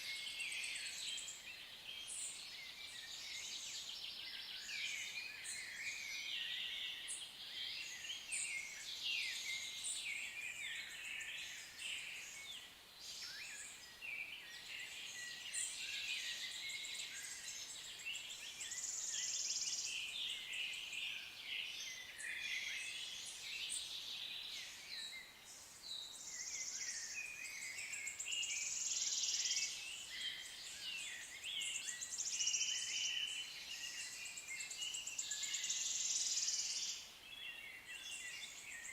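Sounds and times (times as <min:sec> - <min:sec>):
birds chirping and trilling: 0:00.1 - 0:38.9.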